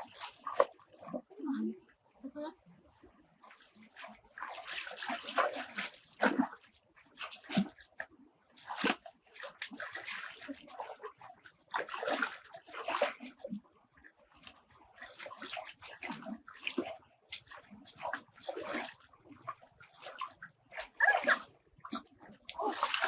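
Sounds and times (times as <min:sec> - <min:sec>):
water splashing and sloshing: 0:00.0 - 0:23.0.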